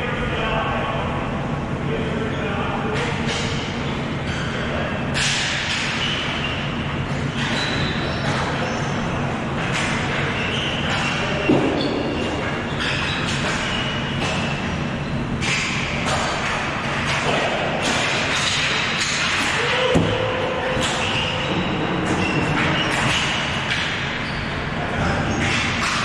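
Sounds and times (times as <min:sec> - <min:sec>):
ball hockey game in a hall: 0:00.0 - 0:26.0.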